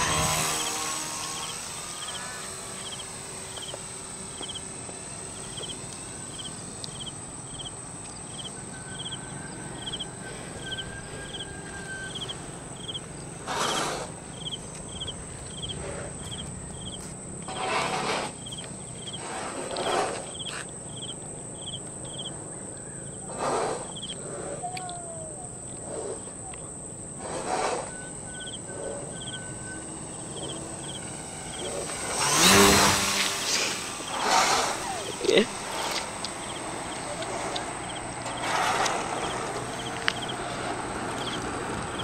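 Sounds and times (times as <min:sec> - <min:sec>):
high-pitched whine: 0:00.0 - 0:42.0
insects chirping in pulses: 0:00.0 - 0:42.0.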